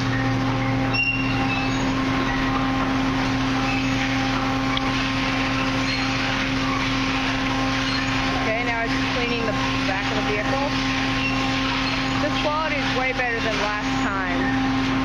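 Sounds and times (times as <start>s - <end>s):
machine hum: 0.0s - 15.0s
wash brushes spinning: 0.0s - 15.0s.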